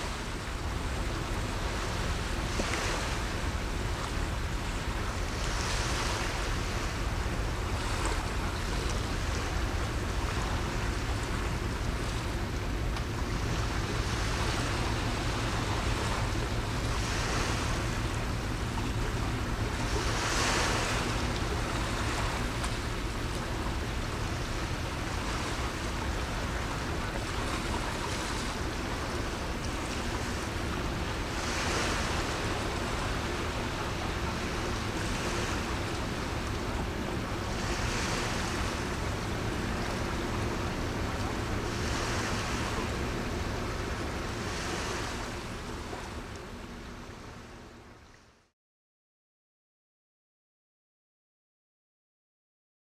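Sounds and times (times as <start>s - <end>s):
sea waves washing: 0.0s - 48.3s
wind rumble on microphone: 0.0s - 48.4s.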